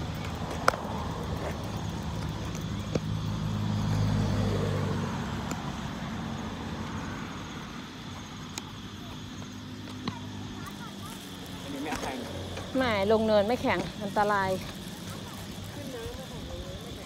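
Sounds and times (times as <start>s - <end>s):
motor vehicle passing: 0.0s - 17.0s.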